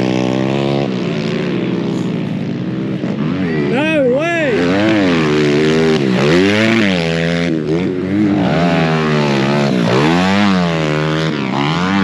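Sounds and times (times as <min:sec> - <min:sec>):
pit bikes revving past: 0:00.0 - 0:12.0.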